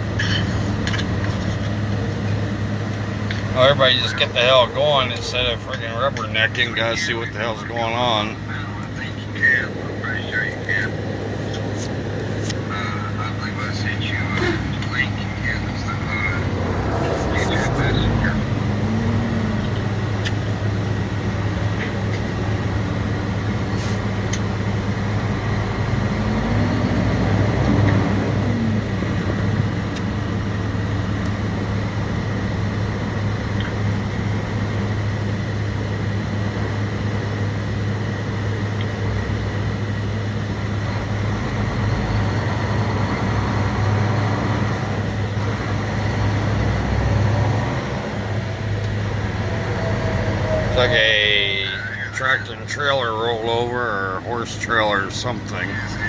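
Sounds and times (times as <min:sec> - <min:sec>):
diesel truck engine running: 0:00.0 - 0:56.0
road noise: 0:00.0 - 0:56.0.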